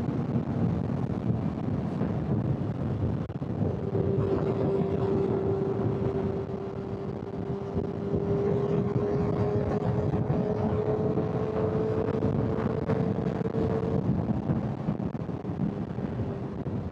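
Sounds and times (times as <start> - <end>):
wind and road noise: 0.0 - 16.9
motorcycle engine cruising: 3.2 - 16.9.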